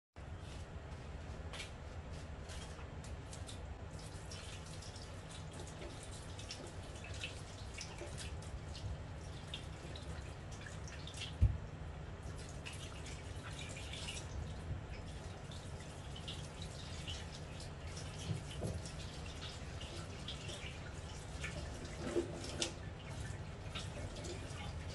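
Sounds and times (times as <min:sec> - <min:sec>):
steady low hum: 0:00.2 - 0:24.9
water splashes and drips: 0:02.5 - 0:24.9
tap water running: 0:03.3 - 0:24.9.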